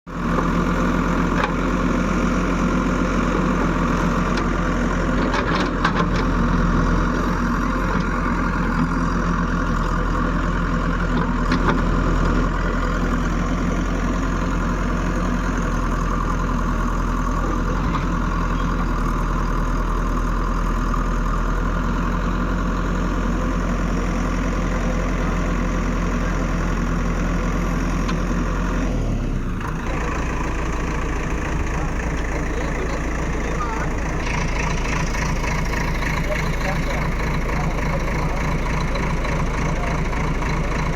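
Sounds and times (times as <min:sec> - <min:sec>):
heavy machinery humming: 0:00.2 - 0:19.0, 0:21.7 - 0:40.9.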